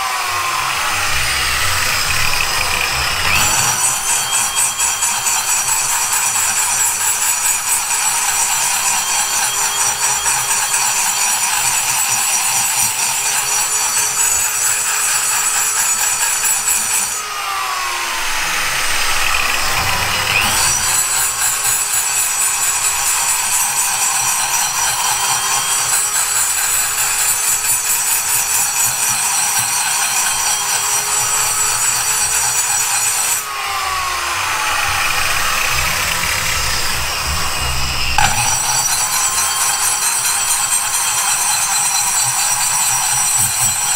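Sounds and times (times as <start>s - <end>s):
die grinder grinding metal: 0.0s - 43.9s.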